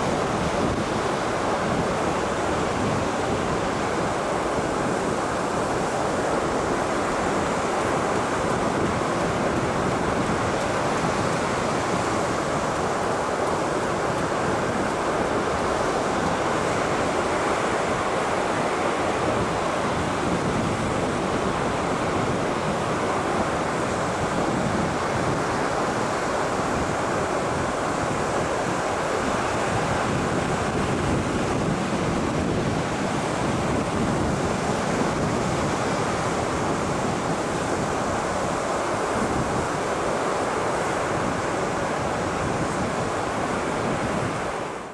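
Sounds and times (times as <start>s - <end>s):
ocean surf breaking: 0.0s - 44.9s.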